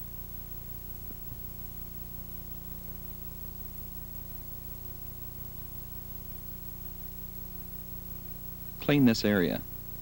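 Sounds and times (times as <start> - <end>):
mains hum and tape hiss: 0.0 - 10.0.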